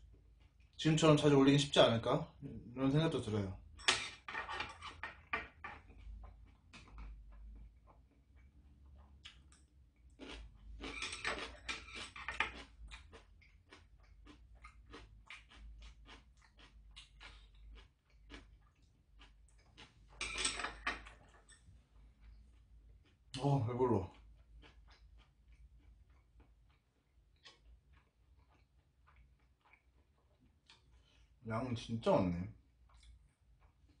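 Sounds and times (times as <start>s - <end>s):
person chewing: 0.0s - 0.8s, 4.8s - 20.2s, 21.0s - 31.4s, 32.6s - 34.0s.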